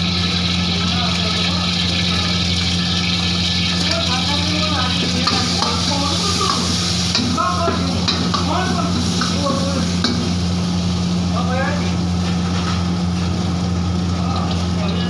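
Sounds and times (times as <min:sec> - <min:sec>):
garlic sizzling in oil: 0:00.0 - 0:15.0
gas burner humming: 0:00.0 - 0:15.0.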